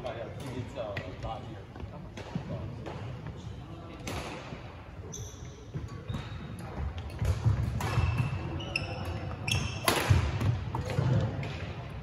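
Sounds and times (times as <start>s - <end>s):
sneakers squeaking: 0.3s - 11.8s.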